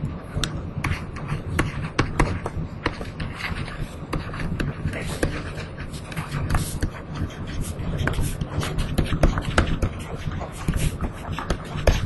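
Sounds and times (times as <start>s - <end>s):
low rumble of room noise: 0.0s - 12.0s.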